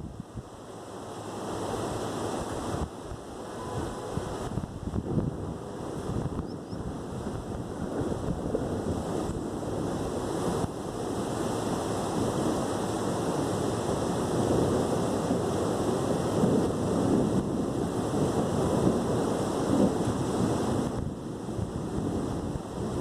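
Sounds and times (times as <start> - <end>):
rain: 0.0 - 23.0
wind: 0.0 - 23.0.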